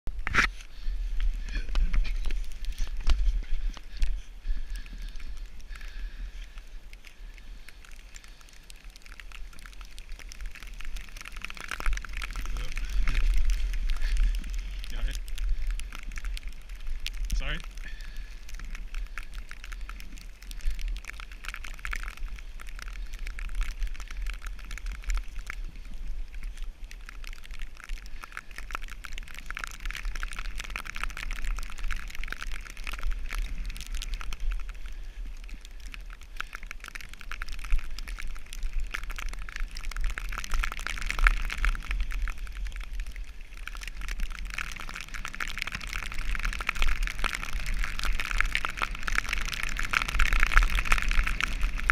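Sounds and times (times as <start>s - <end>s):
wind rumble on microphone: 0.1s - 51.9s.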